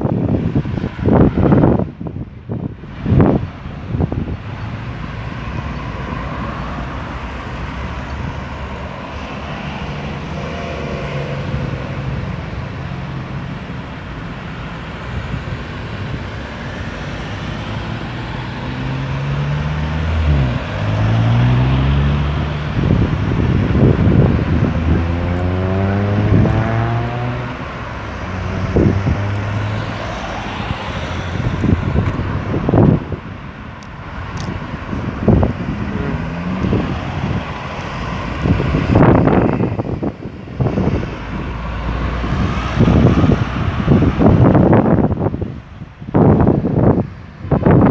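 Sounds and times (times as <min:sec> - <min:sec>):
road traffic passing: 0:00.0 - 0:47.9
vehicles accelerating through gears: 0:04.0 - 0:47.9.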